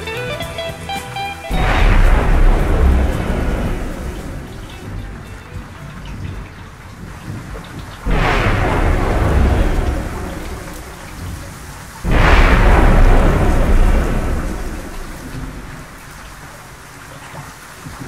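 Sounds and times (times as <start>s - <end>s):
steady rain: 0.0s - 18.0s
loud thunderclap: 1.5s - 6.4s, 7.2s - 16.8s
thunder rumbling: 1.5s - 17.2s.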